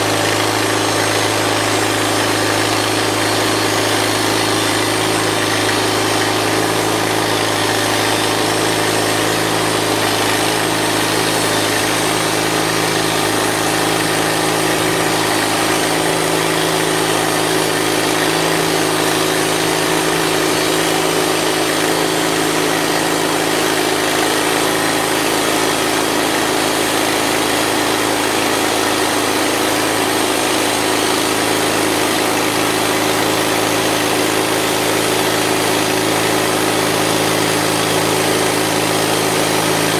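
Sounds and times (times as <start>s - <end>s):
band blade cutting log: 0.0s - 39.9s
bandsaw mill engine under load: 0.0s - 39.9s.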